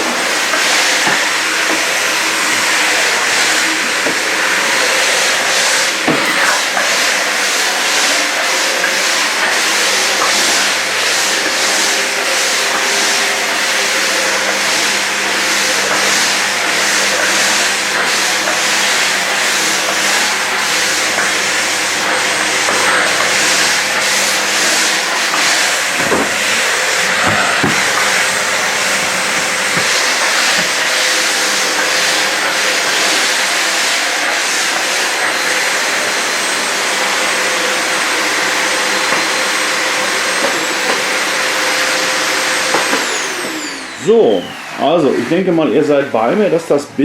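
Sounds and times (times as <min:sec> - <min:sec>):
vacuum cleaner running: 0:00.0 - 0:47.0.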